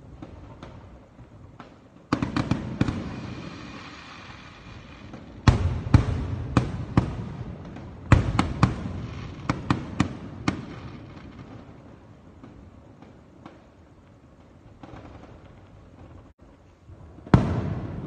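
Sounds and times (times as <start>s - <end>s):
firework crackling and hiss: 0.0s - 18.0s.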